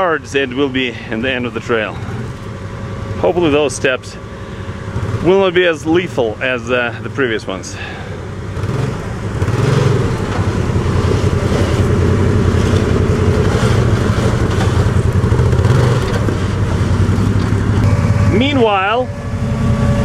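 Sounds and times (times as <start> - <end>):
utility vehicle engine running: 0.0 - 20.0.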